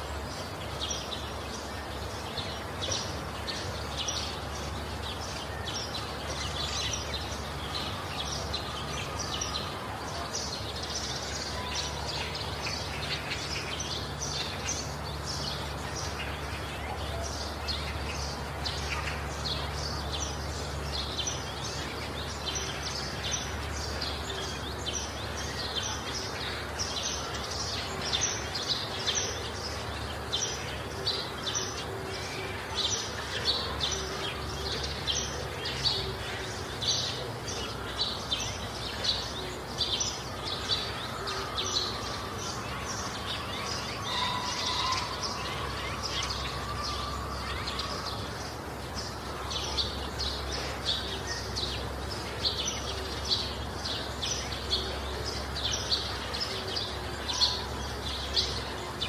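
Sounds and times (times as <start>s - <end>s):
small birds chirping: 0.0s - 59.0s
steady background noise: 0.0s - 59.0s.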